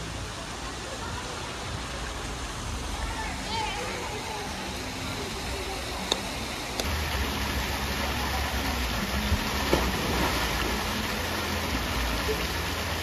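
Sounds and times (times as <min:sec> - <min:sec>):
water jets splashing into pool: 0:00.0 - 0:13.0.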